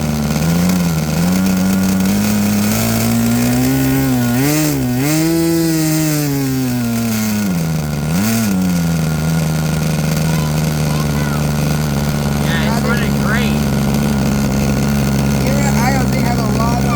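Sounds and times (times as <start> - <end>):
model airplane engine revving: 0.0 - 16.9.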